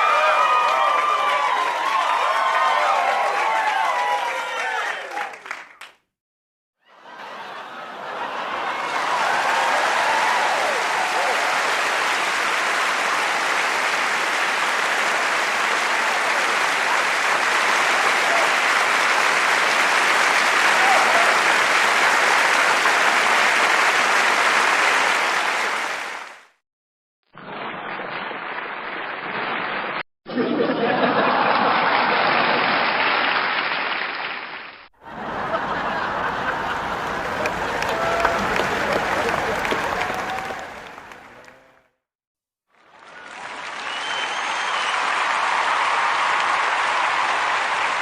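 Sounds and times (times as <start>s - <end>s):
crowd applauding: 0.0s - 6.0s, 7.0s - 26.6s, 30.9s - 42.0s, 42.7s - 48.0s.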